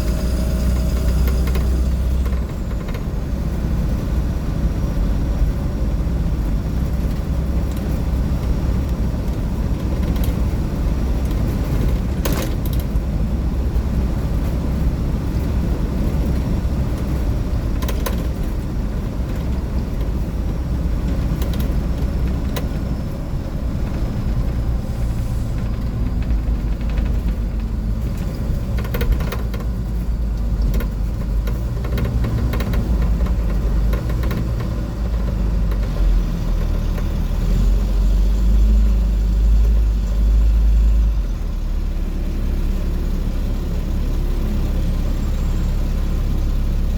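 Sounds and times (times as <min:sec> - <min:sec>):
bus engine and road noise drone: 0:00.0 - 0:46.9
rattles and clicks from bus body: 0:00.0 - 0:46.9.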